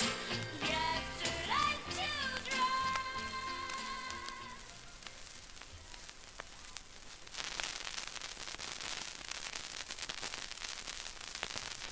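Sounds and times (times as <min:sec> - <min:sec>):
vinyl record hiss and crackles: 0:00.0 - 0:11.9.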